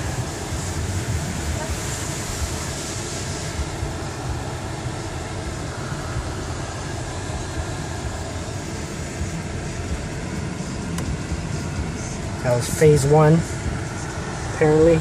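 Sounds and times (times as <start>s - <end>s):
car wash spray rushing: 0.0s - 15.0s.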